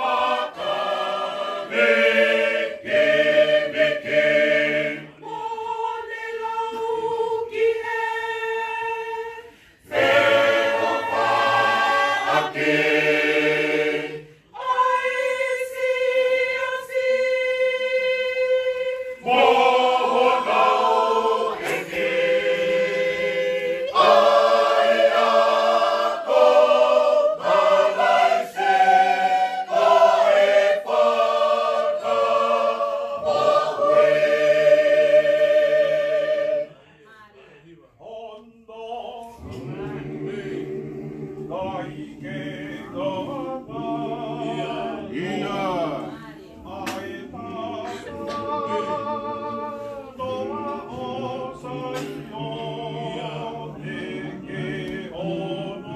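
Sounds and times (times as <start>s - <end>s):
choir singing a hymn a cappella: 0.0s - 55.9s.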